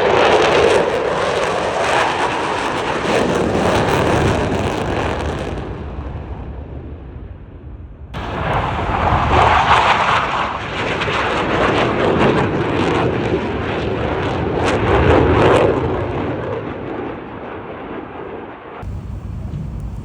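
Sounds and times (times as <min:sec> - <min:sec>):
jet engines roaring past: 0:00.0 - 0:20.0.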